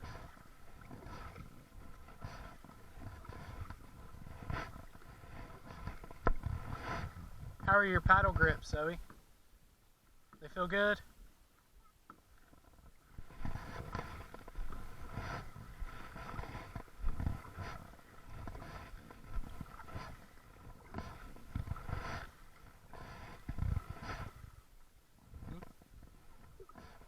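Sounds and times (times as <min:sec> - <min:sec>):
paddle splashing in water: 0:00.0 - 0:09.2, 0:11.5 - 0:27.0.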